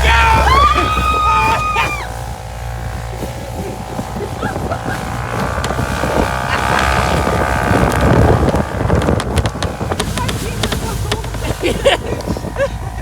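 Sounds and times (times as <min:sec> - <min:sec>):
utility vehicle engine accelerating: 0:00.0 - 0:13.0
wind buffeting microphone: 0:00.0 - 0:13.0.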